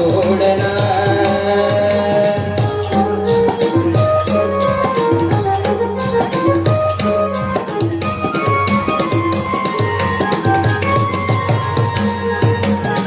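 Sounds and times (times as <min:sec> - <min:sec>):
held melody line: 0:00.0 - 0:13.0
jingling hand percussion: 0:00.0 - 0:13.0.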